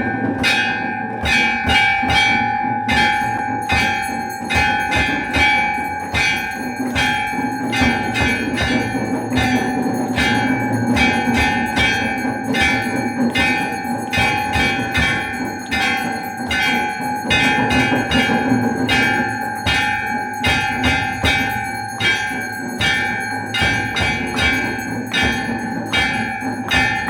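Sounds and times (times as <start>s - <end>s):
temple bells ringing: 0.0s - 27.0s.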